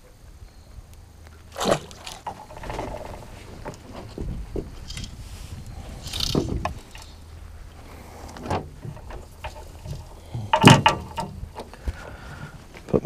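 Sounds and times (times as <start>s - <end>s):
fishing gear clicks and knocks: 1.2s - 12.9s.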